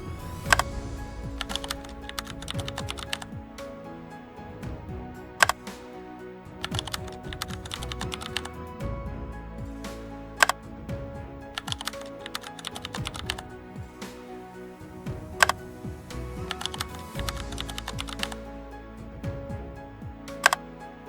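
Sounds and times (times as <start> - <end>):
background music with held notes: 0.0 - 21.0.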